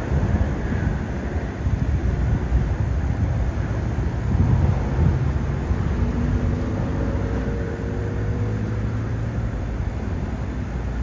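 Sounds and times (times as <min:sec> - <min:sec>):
distant engine hum: 0:00.0 - 0:11.0
low outdoor rumble: 0:00.0 - 0:11.0.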